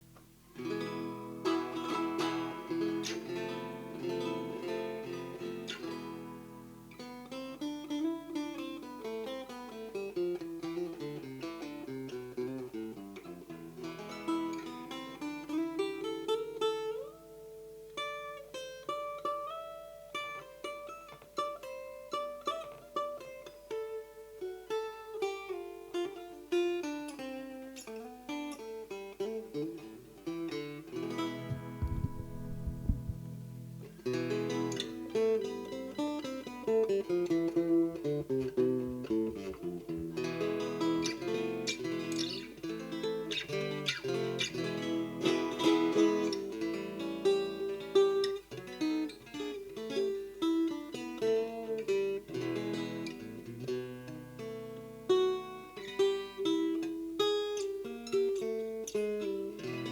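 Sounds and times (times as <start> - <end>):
acoustic guitar playing: 0.0 - 59.9.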